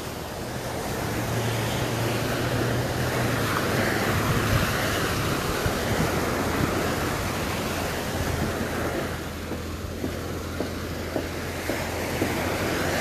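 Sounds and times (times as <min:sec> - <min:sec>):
sea waves breaking on beach: 0:00.0 - 0:13.0
wind rumbling on microphone: 0:00.0 - 0:13.0.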